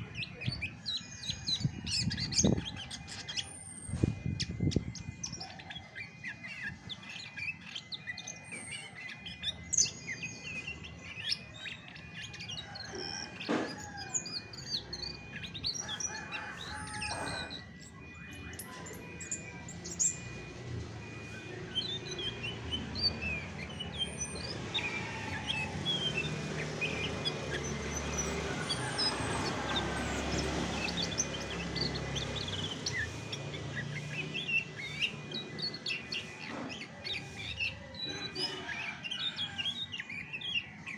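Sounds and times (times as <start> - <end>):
thrush singing: 0.0 - 40.9.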